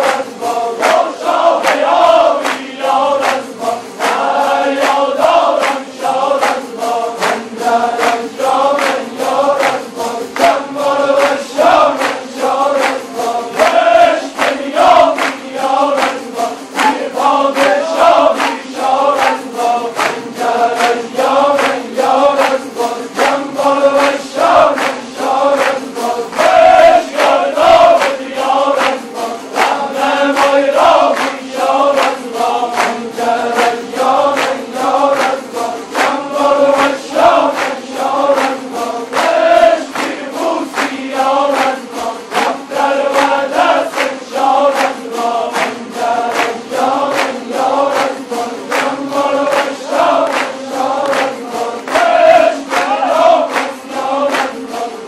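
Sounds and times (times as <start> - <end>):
men chanting in unison: 0.0 - 55.0.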